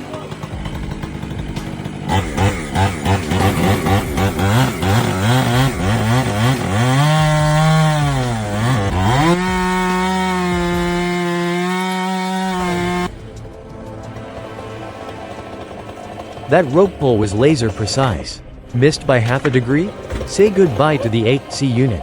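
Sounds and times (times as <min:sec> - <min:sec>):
chainsaw engine revving: 0:00.0 - 0:13.2, 0:13.8 - 0:22.0.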